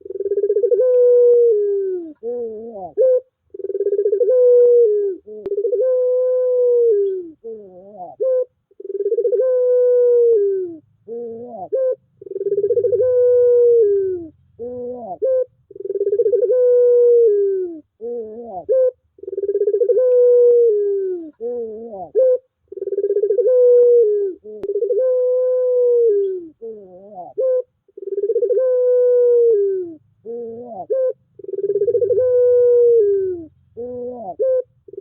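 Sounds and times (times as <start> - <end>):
dove cooing: 0.0 - 35.0.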